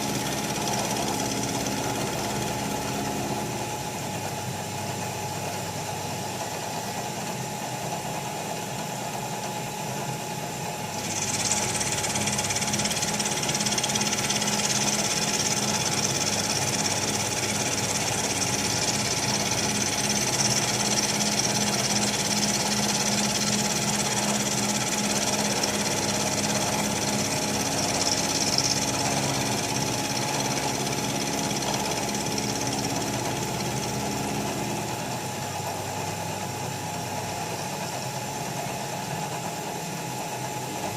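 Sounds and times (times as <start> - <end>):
milling machine running: 0.0 - 40.9.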